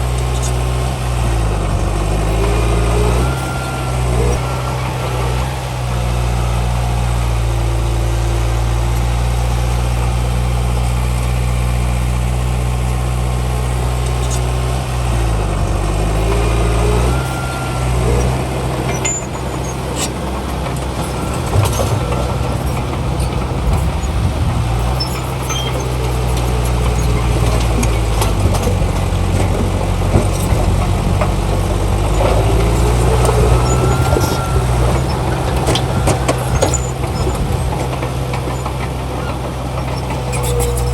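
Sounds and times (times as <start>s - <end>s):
heavy diesel engines droning: 0.0s - 40.9s.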